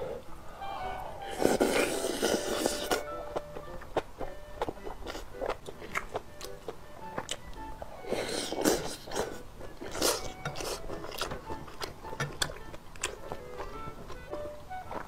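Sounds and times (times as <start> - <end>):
wet chewing: 1.2 - 15.0.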